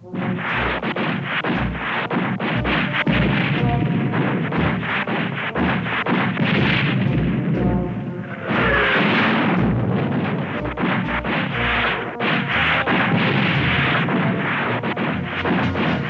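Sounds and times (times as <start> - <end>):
low booms: 0.0 - 16.0
sharp bangs: 0.0 - 16.0.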